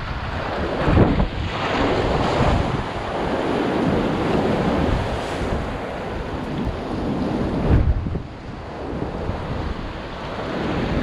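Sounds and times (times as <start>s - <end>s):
sea surf washing against rocks: 0.0s - 11.0s
wind buffeting microphone: 0.0s - 11.0s.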